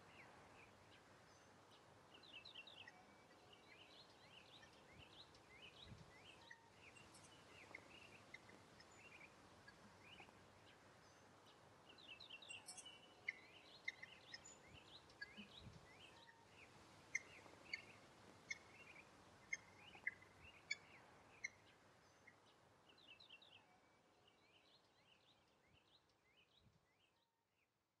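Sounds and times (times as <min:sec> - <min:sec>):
small birds chirping: 0:00.0 - 0:27.7
faint outdoor background noise: 0:00.0 - 0:28.0.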